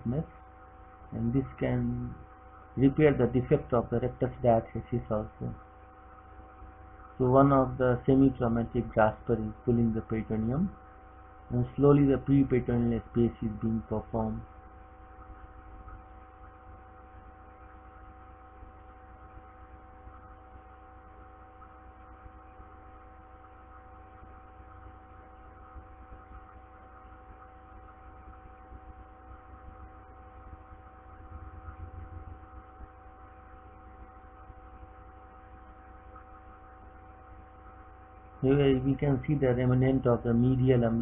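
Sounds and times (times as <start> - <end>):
low electrical hum with tones: 0.0 - 41.0.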